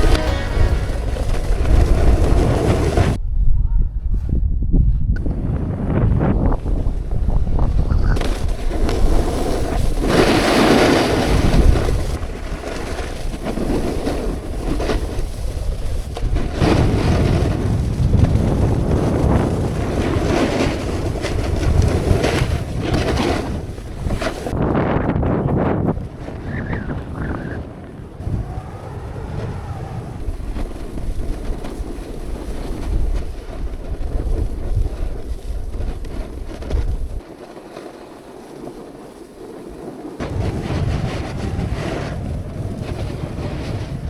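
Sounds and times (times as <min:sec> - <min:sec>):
snowboard scraping over snow: 0:00.0 - 0:03.2, 0:05.4 - 0:44.0
wind buffeting microphone: 0:00.0 - 0:37.3, 0:39.6 - 0:44.0.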